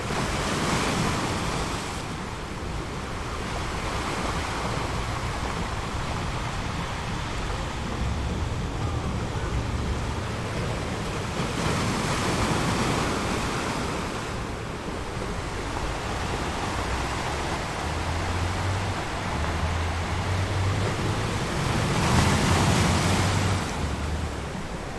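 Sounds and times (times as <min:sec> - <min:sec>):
waves washing in: 0:00.0 - 0:24.9.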